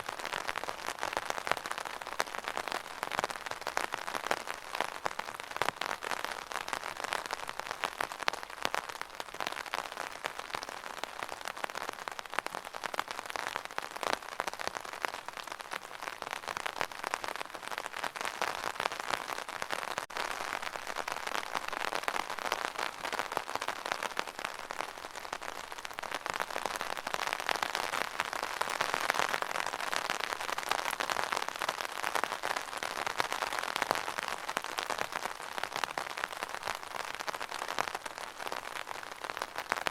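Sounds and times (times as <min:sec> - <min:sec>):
rain drumming on an umbrella: 0:00.0 - 0:39.9.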